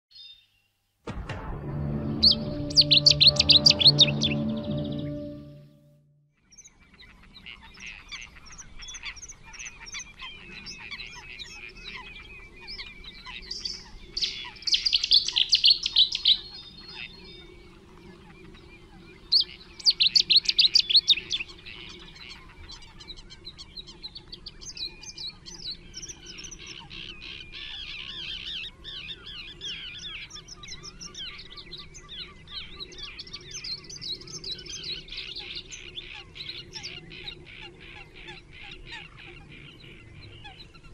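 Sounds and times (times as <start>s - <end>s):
rapid twittering bird song: 6.4s - 40.9s
songbirds chorus: 6.4s - 40.9s.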